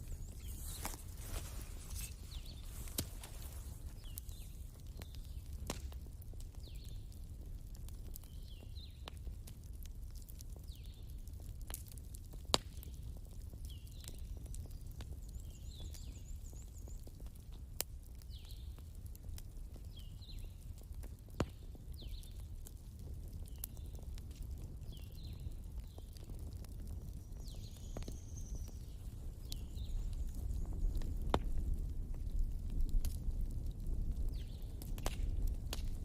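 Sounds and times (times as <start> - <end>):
fire pops: 0.0 - 36.0
wood fire crackling: 0.0 - 36.0.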